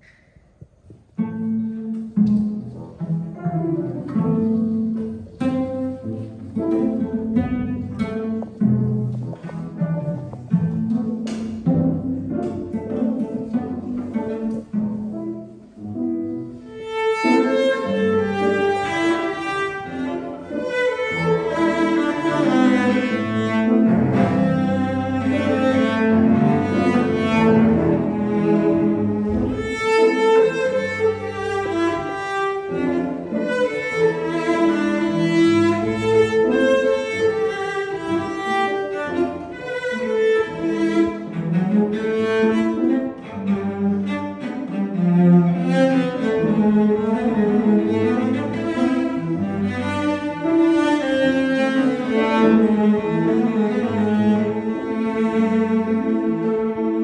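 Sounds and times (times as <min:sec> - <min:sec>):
cello: 0:00.0 - 0:57.0
grand piano: 0:00.0 - 0:57.0.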